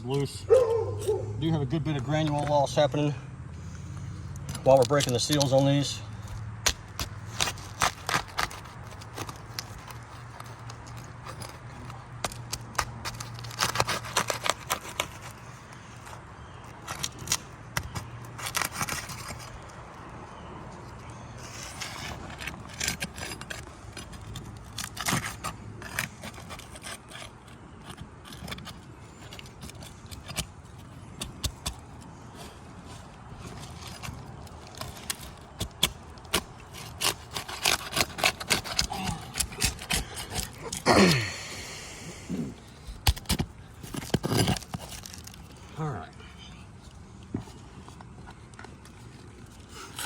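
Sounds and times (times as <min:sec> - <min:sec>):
pry bar scraping shingles: 0:00.0 - 0:50.0.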